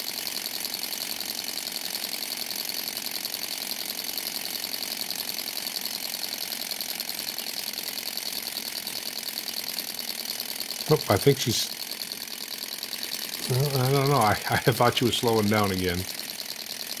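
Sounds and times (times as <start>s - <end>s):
model engine whirring clatter: 0.0s - 17.0s.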